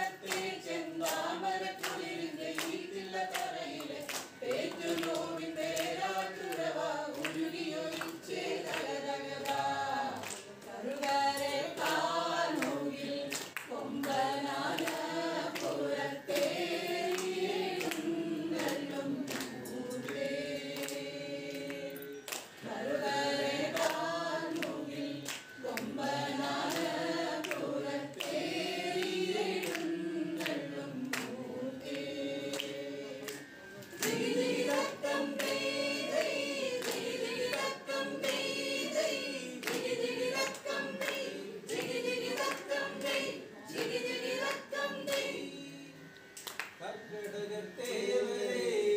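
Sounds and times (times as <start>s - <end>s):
group of voices singing: 0.0s - 48.9s.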